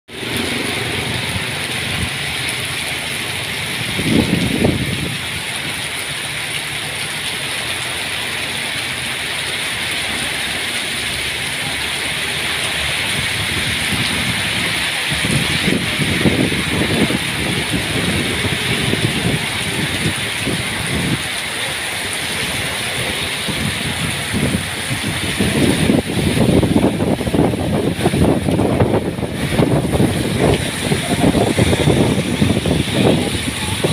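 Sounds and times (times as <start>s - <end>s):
heavy rain hissing: 0.1s - 33.9s
passing traffic rumble: 0.1s - 33.9s.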